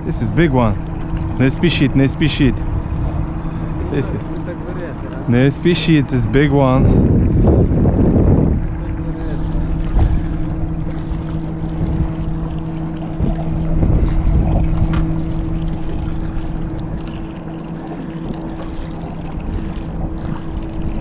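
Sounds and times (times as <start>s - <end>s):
boat motor humming: 0.0s - 21.0s
water splashing against hull: 0.0s - 21.0s
wind buffeting microphone: 0.0s - 21.0s.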